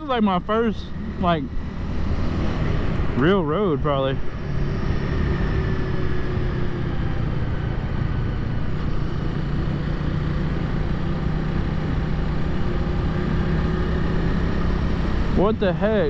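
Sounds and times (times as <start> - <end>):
motorcycle engine running: 0.0 - 16.0
road rumble: 0.0 - 16.0.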